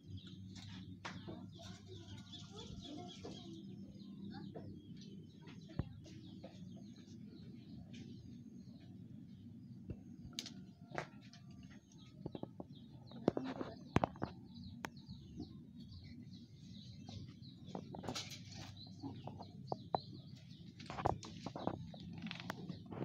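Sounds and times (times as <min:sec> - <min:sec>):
low background hum: 0:00.0 - 0:23.0
small birds chirping: 0:00.0 - 0:23.0.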